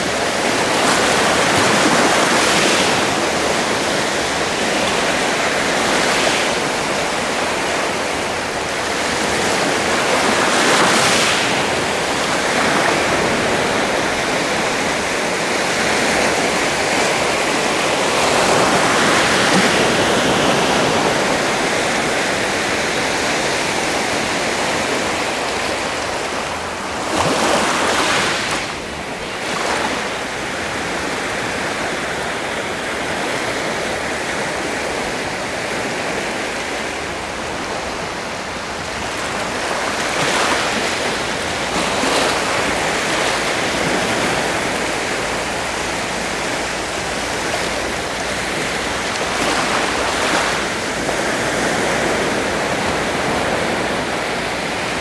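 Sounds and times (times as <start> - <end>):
sea waves washing onto shore: 0.0 - 55.0.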